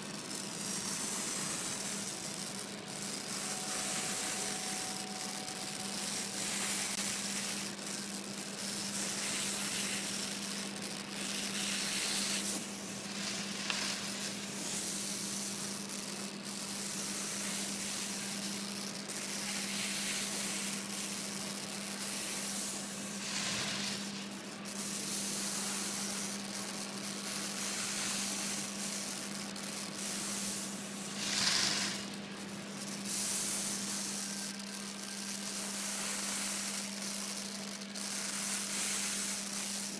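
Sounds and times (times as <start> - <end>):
steady low hum: 0.0 - 39.9
torch flame hissing: 0.2 - 29.2, 29.9 - 37.0.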